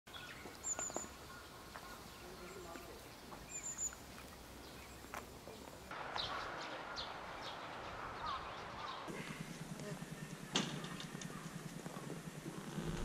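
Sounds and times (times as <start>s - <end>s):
faint outdoor ambience: 0.1s - 13.0s.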